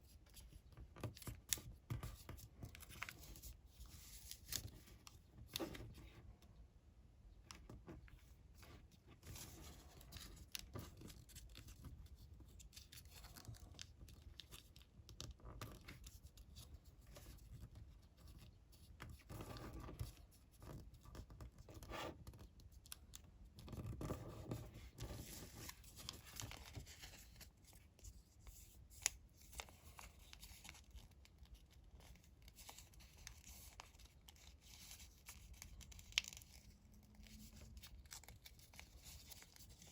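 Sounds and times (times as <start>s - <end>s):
paper rustling and creasing: 0.3s - 6.1s, 7.7s - 17.7s, 19.1s - 39.9s.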